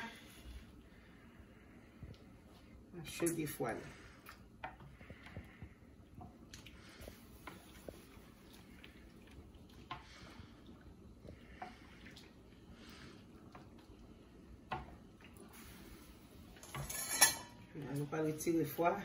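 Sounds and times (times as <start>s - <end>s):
water moving: 0.0s - 16.8s.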